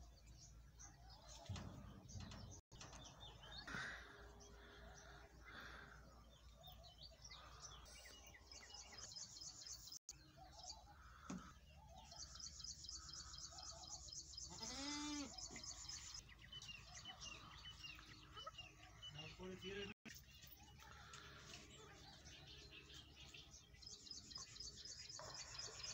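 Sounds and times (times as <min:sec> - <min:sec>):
small birds chirping and twittering: 0:00.0 - 0:25.9.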